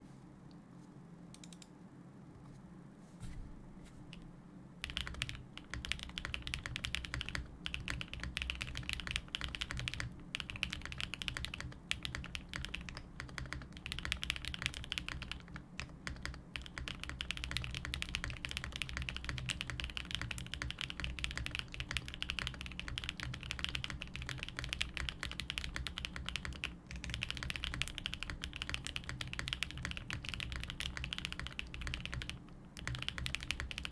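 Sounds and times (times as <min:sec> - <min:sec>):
mechanical keyboard typing: 0:04.8 - 0:33.9.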